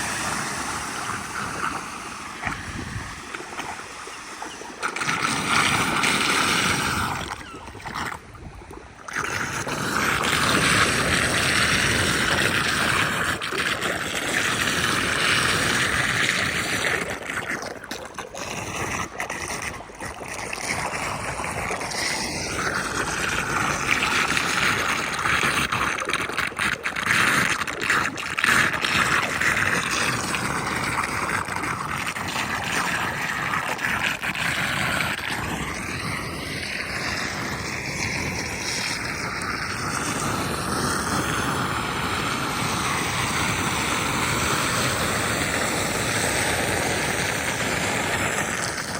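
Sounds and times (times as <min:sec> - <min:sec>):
water rushing into drain: 0:00.0 - 0:48.9.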